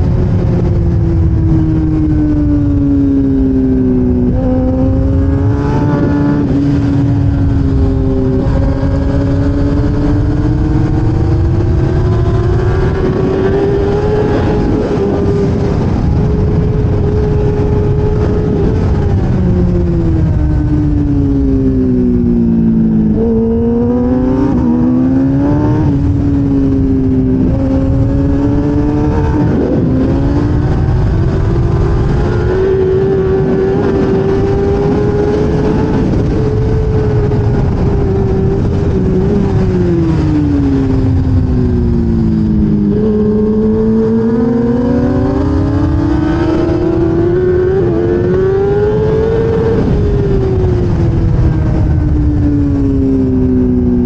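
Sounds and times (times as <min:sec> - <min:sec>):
motorcycle engine at high revs: 0:00.0 - 0:54.0.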